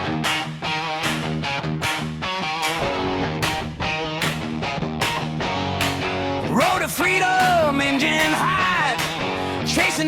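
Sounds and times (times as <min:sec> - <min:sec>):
distorted electric guitar rock: 0:00.0 - 0:10.0.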